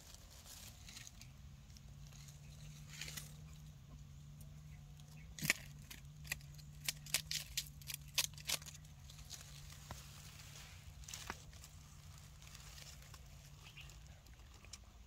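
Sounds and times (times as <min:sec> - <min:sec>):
dry leaves crackling: 0:00.0 - 0:15.0
low steady hum: 0:00.0 - 0:15.0.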